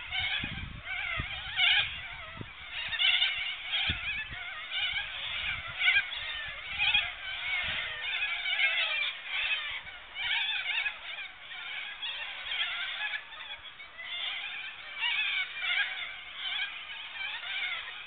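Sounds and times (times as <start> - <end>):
cockatoos calling: 0.0 - 18.0.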